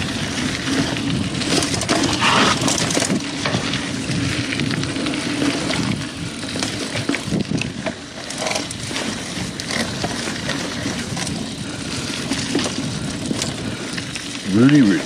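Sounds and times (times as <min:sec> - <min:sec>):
bike clicks and rattles: 0:00.0 - 0:15.0
bike tyres crunching on dirt: 0:00.0 - 0:15.0.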